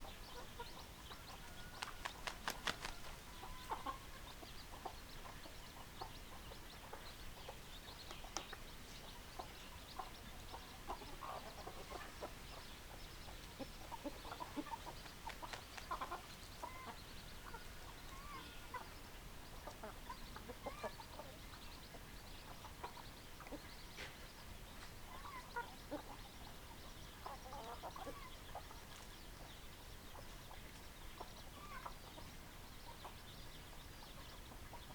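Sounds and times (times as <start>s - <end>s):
hens clucking: 0.0s - 33.2s.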